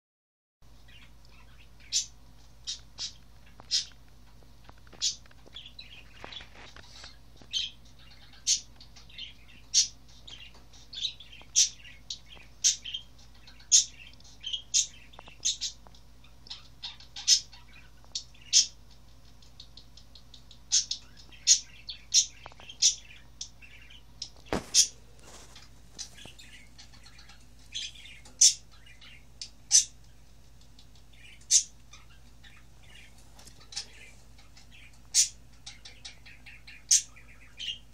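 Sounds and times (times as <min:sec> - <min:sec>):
faint low hum: 0:00.6 - 0:37.9
small bird chirping: 0:00.7 - 0:37.9.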